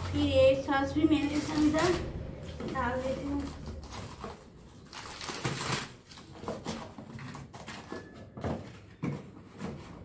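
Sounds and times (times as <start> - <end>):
packets rustling in cardboard box: 0.0 - 10.0.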